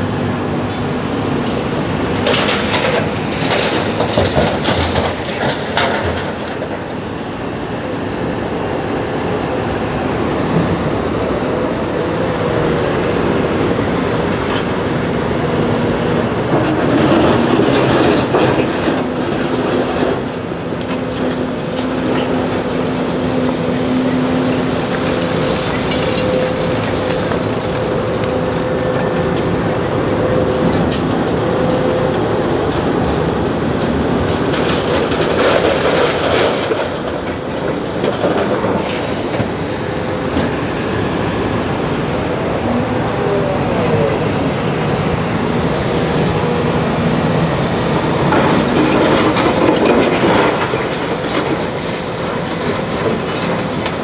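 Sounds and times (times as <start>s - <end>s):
diesel engines humming: 0.0s - 54.0s.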